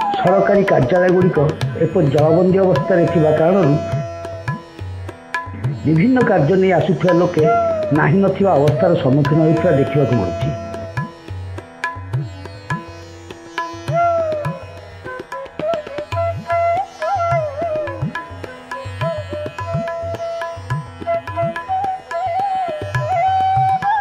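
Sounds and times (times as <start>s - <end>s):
plucked string melody: 0.0s - 23.9s
tabla beat: 0.0s - 24.0s.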